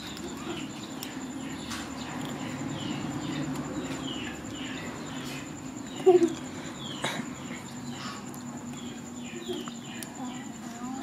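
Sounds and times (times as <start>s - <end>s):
bird chirping: 0.0s - 11.0s
steady low hum: 0.0s - 11.0s.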